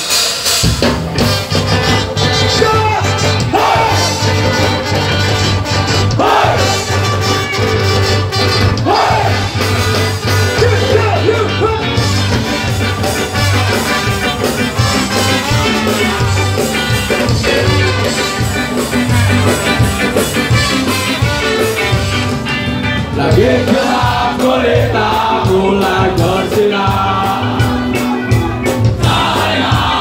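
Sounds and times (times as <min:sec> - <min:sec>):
ska band playing live: 0:00.0 - 0:30.0.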